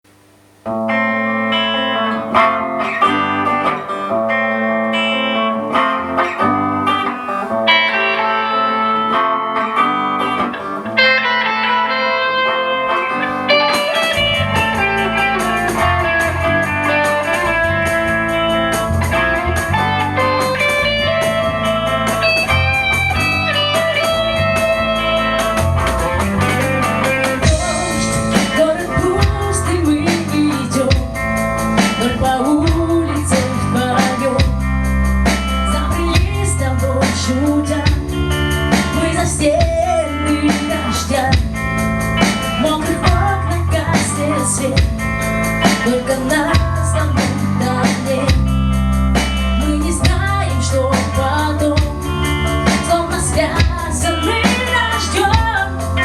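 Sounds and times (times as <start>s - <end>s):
rock band with drums and bass: 0.0s - 56.0s
electric guitar: 0.1s - 56.0s.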